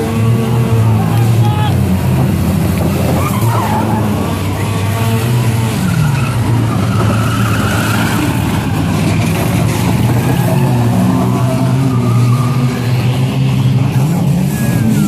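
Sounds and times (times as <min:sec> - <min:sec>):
stock car engines revving: 0:00.0 - 0:15.0
tyres skidding: 0:00.0 - 0:15.0.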